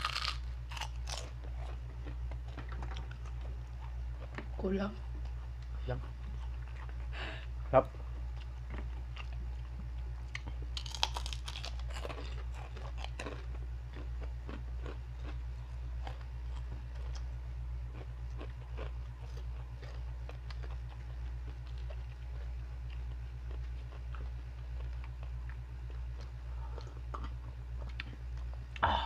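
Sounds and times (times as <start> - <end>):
crunching and chewing pork rinds: 0.0 - 28.8
low hum: 0.0 - 29.0.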